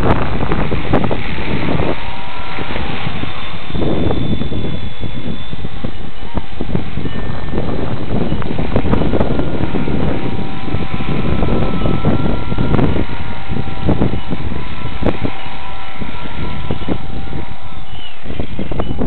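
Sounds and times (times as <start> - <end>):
rc helicopter motor whine: 0.0 - 19.0
wind buffeting microphone: 0.0 - 19.0.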